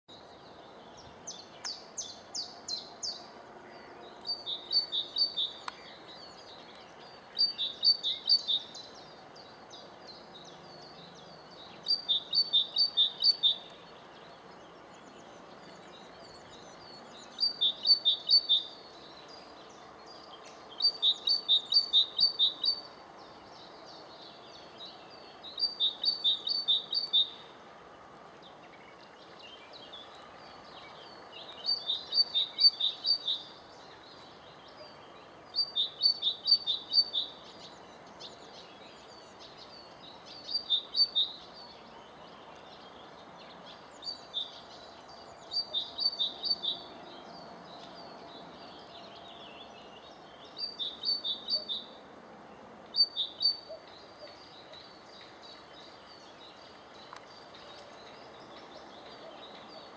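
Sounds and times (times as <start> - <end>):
small songbird singing: 0.1 - 27.6, 28.4 - 52.1, 52.8 - 59.9.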